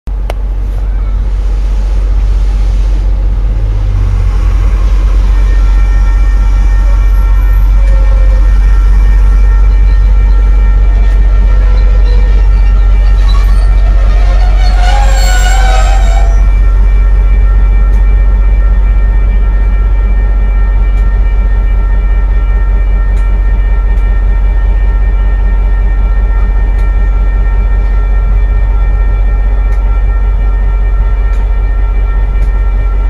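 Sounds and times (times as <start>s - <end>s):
train rumbling past: 0.1s - 33.0s
steady tones: 0.2s - 33.0s.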